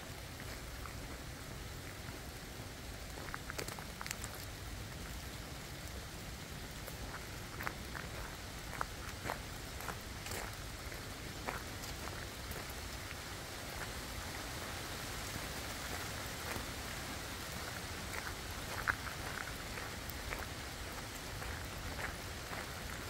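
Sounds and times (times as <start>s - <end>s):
steady rain in forest: 0.0s - 23.0s.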